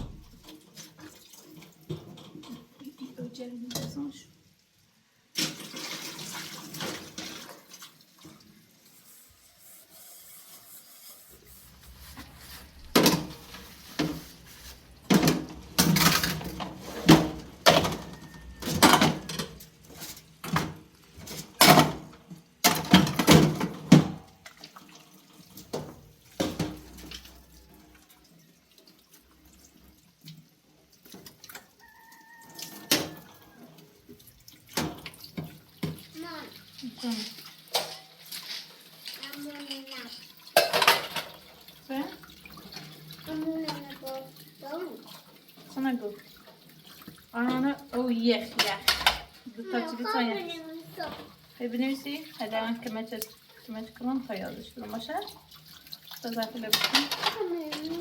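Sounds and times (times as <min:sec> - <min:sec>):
running water splashing: 0:00.0 - 0:58.0.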